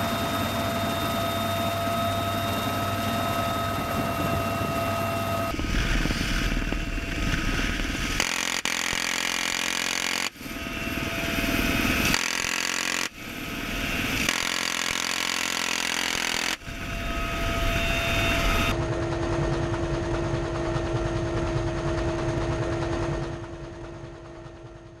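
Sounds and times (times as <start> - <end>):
constant hum: 0.0 - 25.0
helicopter rotor and engine: 0.0 - 25.0.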